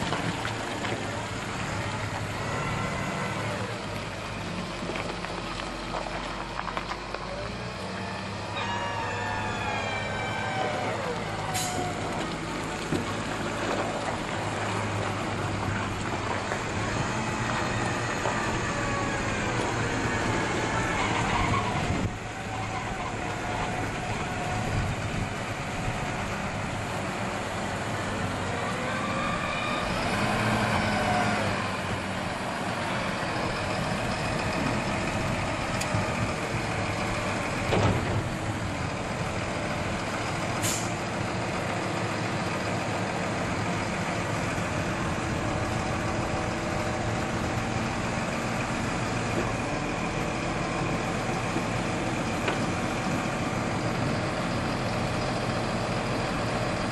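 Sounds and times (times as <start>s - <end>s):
tractor engine running under load: 0.0s - 56.9s.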